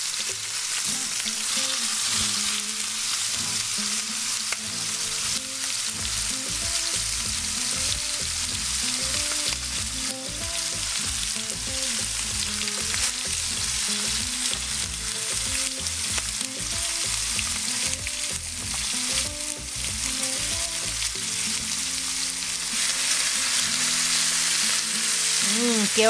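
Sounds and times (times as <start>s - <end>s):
chicken frying in oil: 0.0s - 26.0s
oil popping and crackling: 0.0s - 26.0s.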